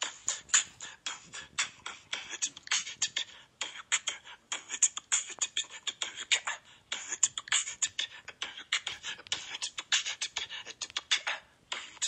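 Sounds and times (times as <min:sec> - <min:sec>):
beatbox through phone speaker: 0:00.0 - 0:12.0.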